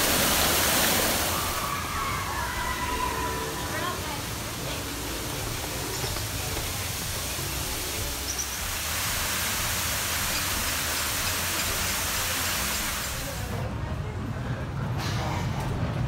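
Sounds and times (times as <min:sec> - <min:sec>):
waterfall rushing over rocks: 0:00.0 - 0:13.5.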